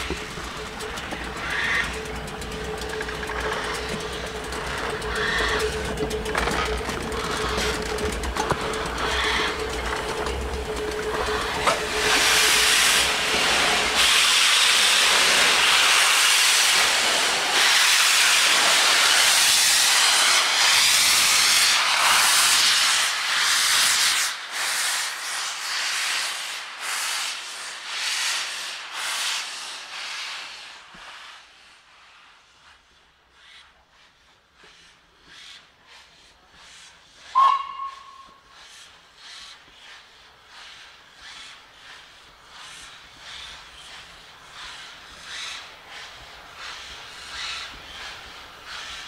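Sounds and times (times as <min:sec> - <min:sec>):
steam locomotive hissing steam: 0:00.0 - 0:49.0.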